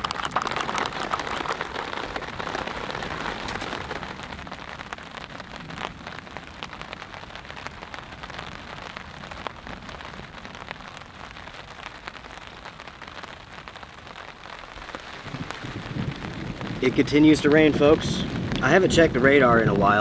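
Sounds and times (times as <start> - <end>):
rain falling on a tarp: 0.0 - 20.0.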